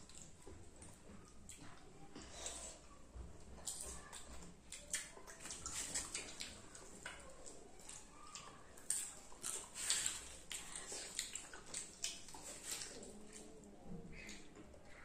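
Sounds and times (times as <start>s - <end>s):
children chewing and lip smacking: 0.0s - 15.0s.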